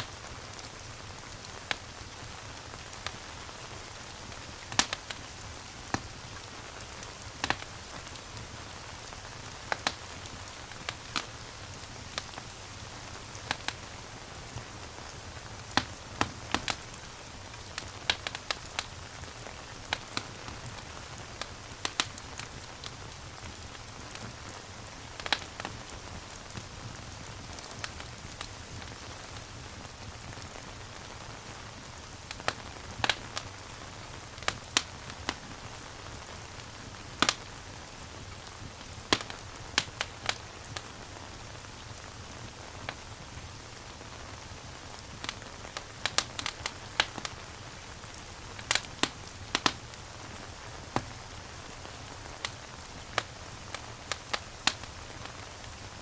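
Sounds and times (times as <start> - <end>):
steady rain: 0.0 - 56.0
wood fire crackling and popping: 0.1 - 56.0.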